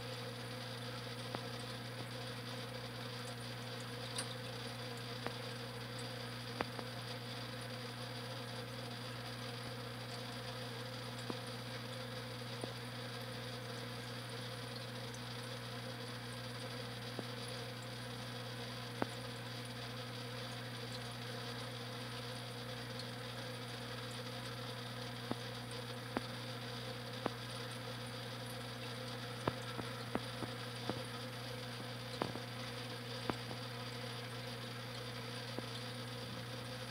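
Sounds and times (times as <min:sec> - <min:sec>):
electrical hum of aquarium pump: 0:00.0 - 0:36.9.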